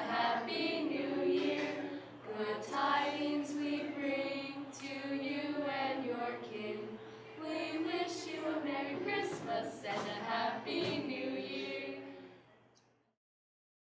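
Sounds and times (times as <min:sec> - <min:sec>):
girls singing a cappella: 0:00.0 - 0:12.4.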